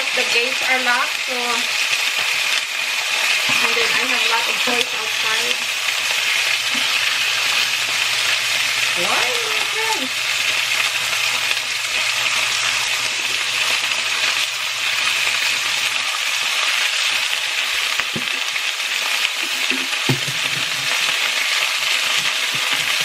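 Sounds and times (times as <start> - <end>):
meat sizzling in oil: 0.0 - 23.0.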